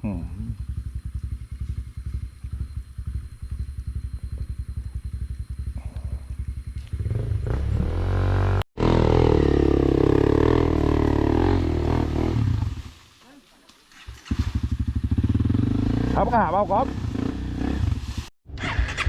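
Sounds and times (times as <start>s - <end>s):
motorcycle engine revving: 0.0s - 13.0s, 13.9s - 19.0s.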